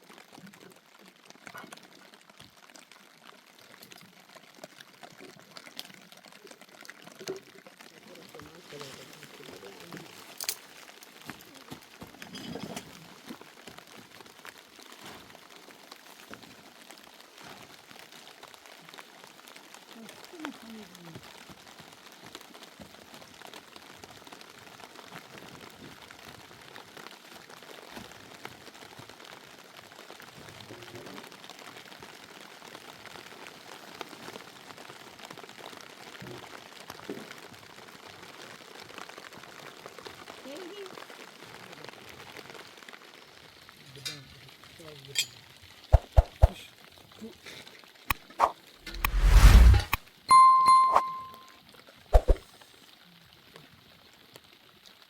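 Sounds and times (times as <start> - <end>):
steady rain patter: 0.0 - 48.7, 51.6 - 55.0.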